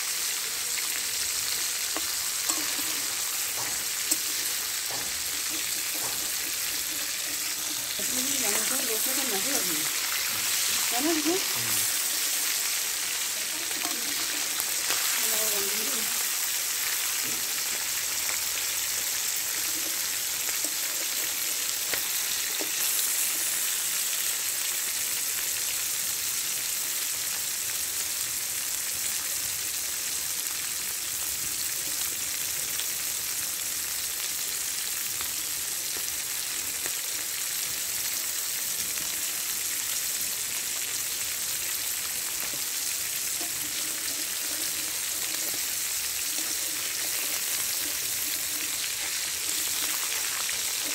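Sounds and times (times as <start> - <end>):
chicken sizzling in hot oil: 0.0 - 50.9.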